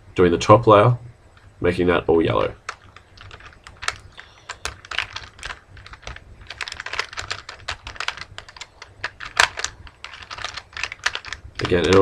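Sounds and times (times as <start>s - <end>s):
puzzle cube clack: 2.3s - 12.0s
puzzle cube clicking: 2.3s - 12.0s.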